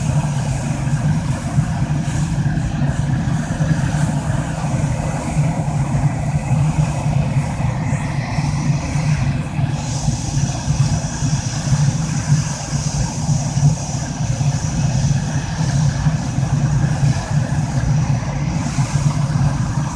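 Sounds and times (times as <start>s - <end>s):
high jet whine: 0.0s - 19.9s
jet engines deep rumble: 0.0s - 19.9s.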